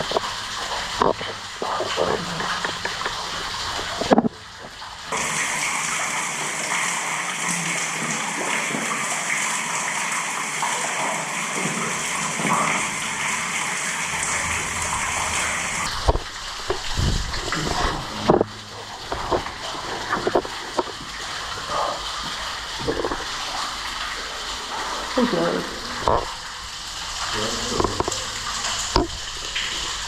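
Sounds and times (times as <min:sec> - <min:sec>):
water gushing in drain tunnel: 0:00.0 - 0:30.0.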